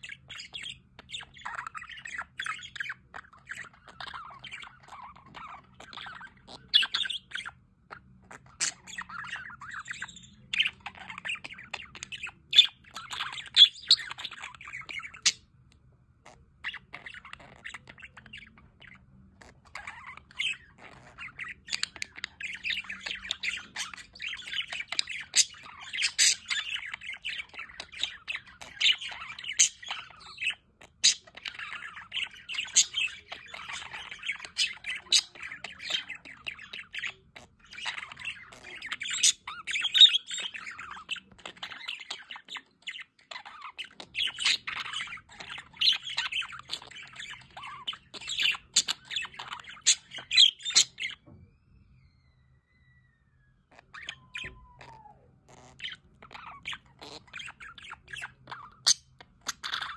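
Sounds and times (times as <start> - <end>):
budgerigars chattering: 0.0 - 51.3, 53.7 - 59.9.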